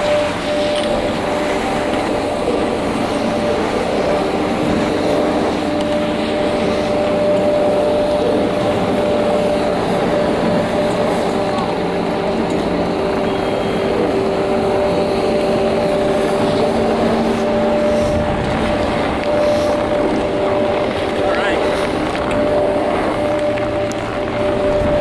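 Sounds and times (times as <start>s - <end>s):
chairlift machinery drone: 0.0s - 25.0s
continuous rushing noise: 0.0s - 25.0s.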